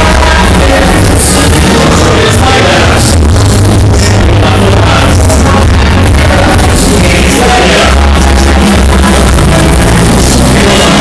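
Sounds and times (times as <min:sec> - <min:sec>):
loud music with heavy bass: 0:00.0 - 0:11.0.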